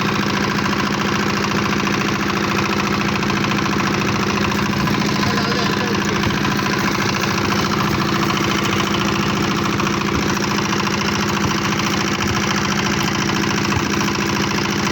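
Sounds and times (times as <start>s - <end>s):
engine running steadily: 0.0s - 14.9s.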